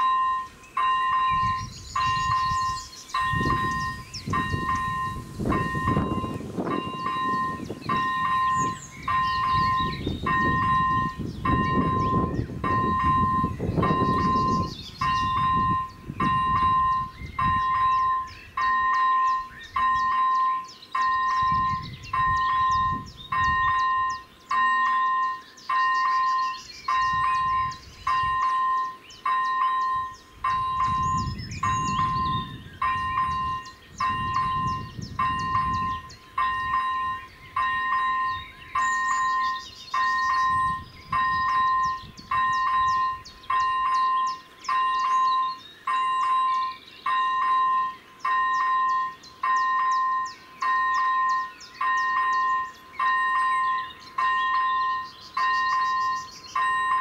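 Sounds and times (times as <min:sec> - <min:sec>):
birds chirping faintly: 0:00.0 - 0:57.0
level crossing warning bell: 0:00.0 - 0:57.0.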